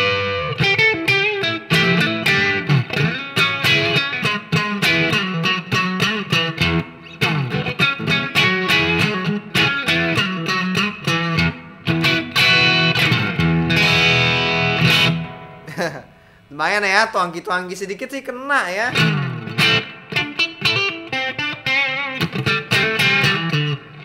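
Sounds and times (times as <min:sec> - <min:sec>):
overdriven electric guitar: 0:00.0 - 0:16.4, 0:18.9 - 0:24.0.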